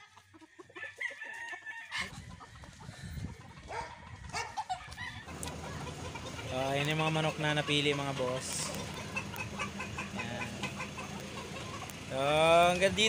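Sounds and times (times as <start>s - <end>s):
roosters crowing and clucking: 0.0s - 13.0s.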